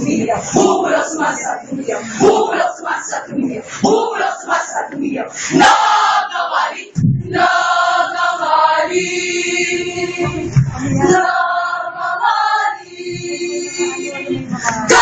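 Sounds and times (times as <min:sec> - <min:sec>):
choir singing in unison: 0:00.0 - 0:15.0.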